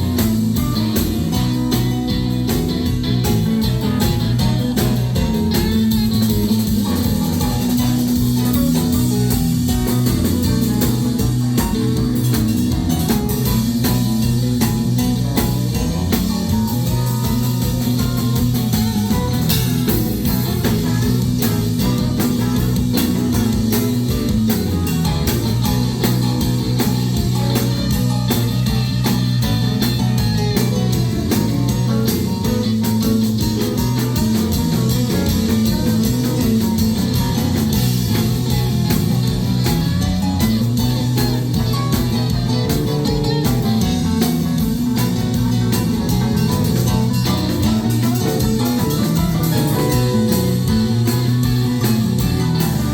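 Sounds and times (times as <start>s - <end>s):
live band playing instrumental: 0.0s - 52.9s.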